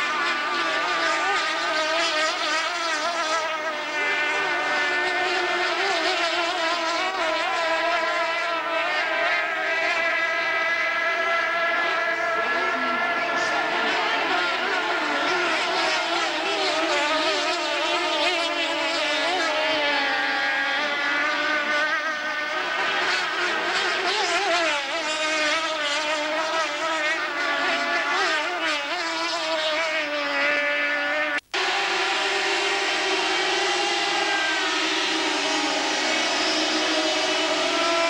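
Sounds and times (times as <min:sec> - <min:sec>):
powerboat engines racing: 0:00.0 - 0:38.0.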